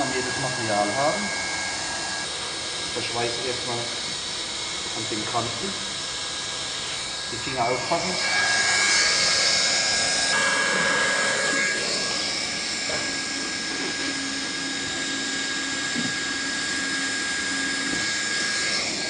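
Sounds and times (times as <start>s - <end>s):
blower whine: 0.0s - 19.0s
hot-air gun hissing: 0.0s - 19.0s.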